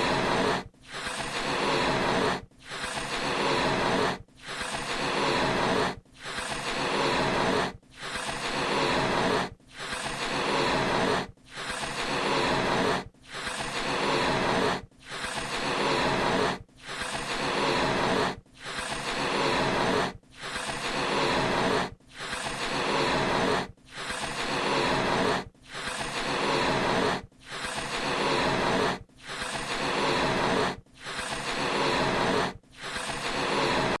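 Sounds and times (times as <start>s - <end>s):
puffs blowing up balloon: 0.0s - 34.0s.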